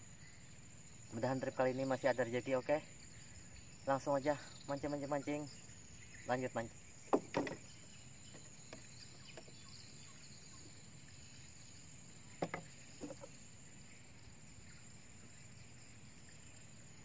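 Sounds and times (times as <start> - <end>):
faint high insect drone: 0.0 - 17.0.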